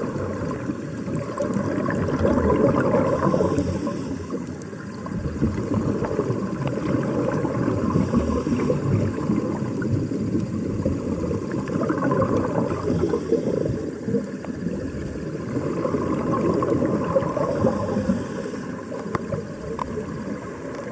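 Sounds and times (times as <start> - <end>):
air bubbling underwater: 0.0 - 3.8, 5.1 - 18.4.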